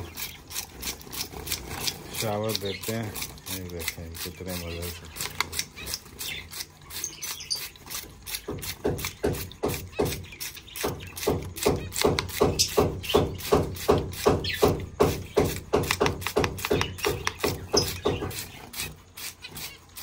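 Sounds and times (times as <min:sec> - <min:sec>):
spray bottle squirting water: 0:00.0 - 0:20.0.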